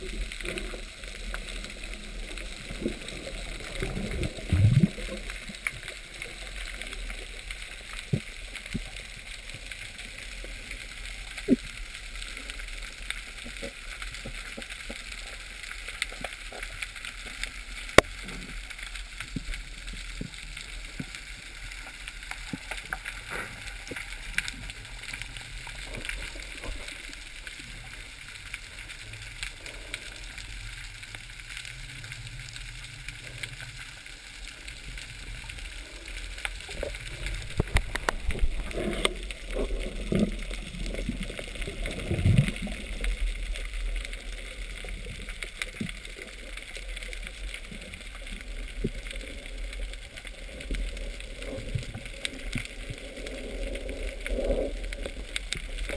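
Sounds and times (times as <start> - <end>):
crackling clicks: 0.0 - 55.9
underwater hiss: 0.0 - 55.9
water noise of diver moving: 0.0 - 55.9.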